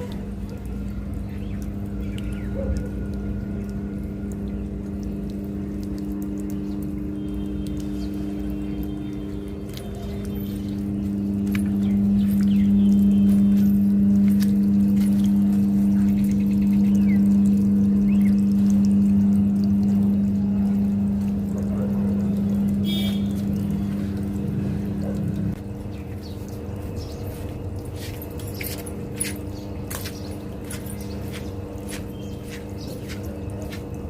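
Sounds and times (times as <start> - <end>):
low mechanical hum: 0.0 - 34.0
running water: 0.0 - 34.0.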